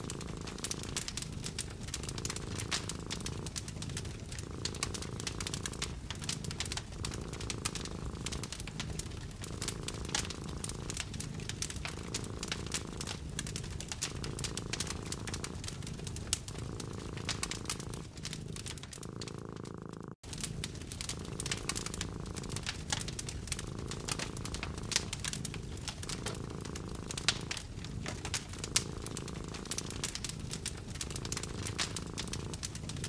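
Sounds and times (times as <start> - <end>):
cat purring: 0.0 - 33.0
wood fire crackling: 0.0 - 33.0.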